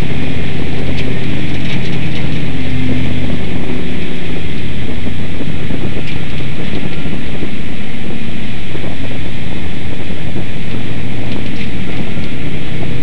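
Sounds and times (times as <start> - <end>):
race car engine running hard: 0.0 - 13.0
wind buffeting microphone: 0.0 - 13.0.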